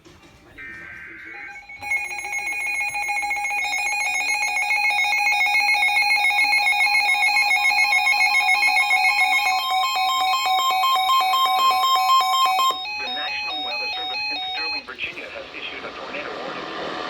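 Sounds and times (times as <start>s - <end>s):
two-tone electronic alarm: 0.6s - 15.2s.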